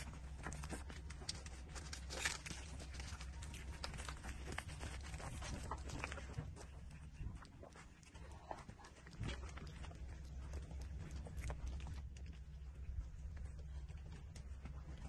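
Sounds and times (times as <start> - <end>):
low steady hum: 0.0 - 15.0
puppies suckling wet smacking: 0.0 - 15.0.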